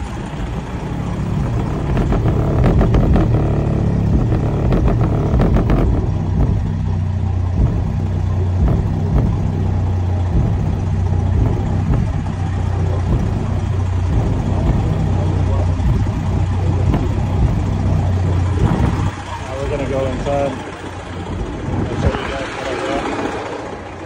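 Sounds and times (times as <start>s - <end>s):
deep subwoofer bass: 0.0s - 24.0s.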